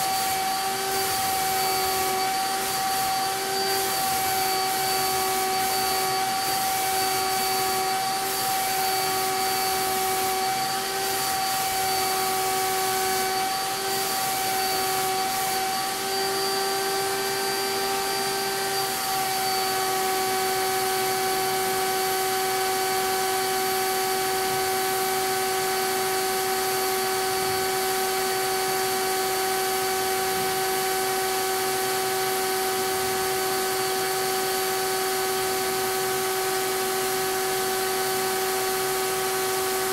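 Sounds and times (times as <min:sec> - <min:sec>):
turbine sprayer whine: 0:00.0 - 0:39.9.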